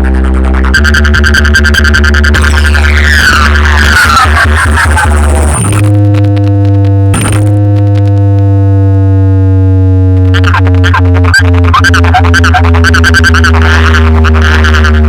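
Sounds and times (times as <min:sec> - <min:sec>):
loud electronic dance music: 0:00.0 - 0:08.0, 0:10.4 - 0:15.0.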